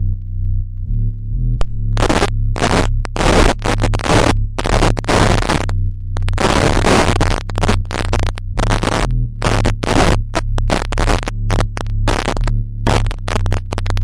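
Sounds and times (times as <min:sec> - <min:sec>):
low synth bass drone: 0:00.0 - 0:14.0
harsh static bursts: 0:01.6 - 0:14.0.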